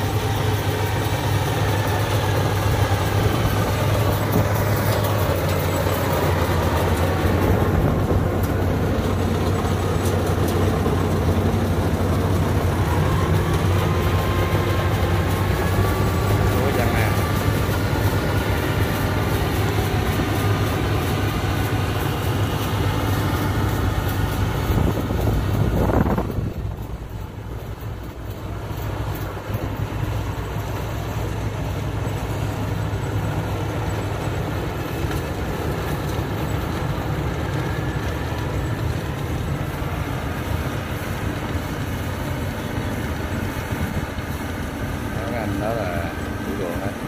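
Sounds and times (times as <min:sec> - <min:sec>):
combine harvester engine hum: 0:00.0 - 0:47.0.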